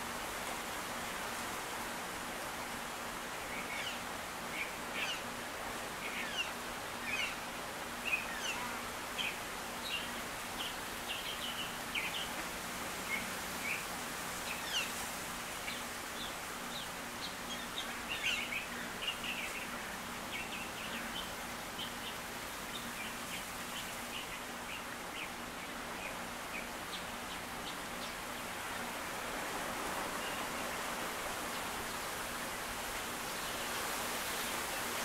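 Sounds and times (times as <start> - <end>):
background hiss: 0.0 - 35.0.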